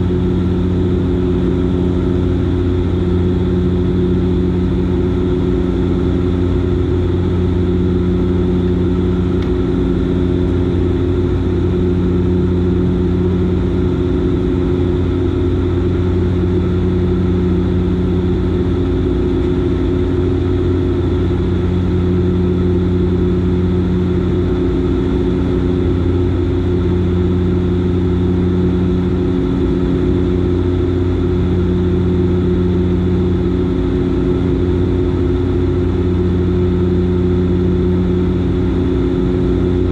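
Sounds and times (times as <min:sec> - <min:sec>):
turboprop propeller drone: 0:00.0 - 0:39.9.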